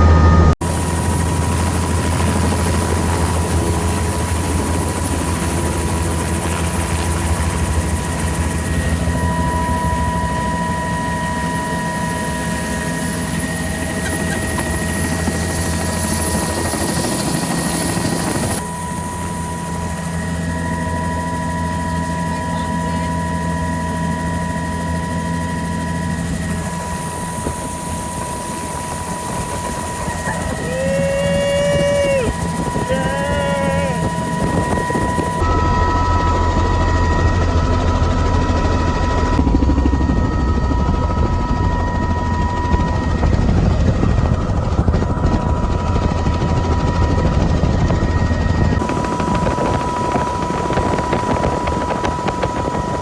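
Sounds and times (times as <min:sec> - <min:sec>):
helicopter rotor and engine drone: 0:00.0 - 0:53.0
high whine: 0:00.0 - 0:53.0.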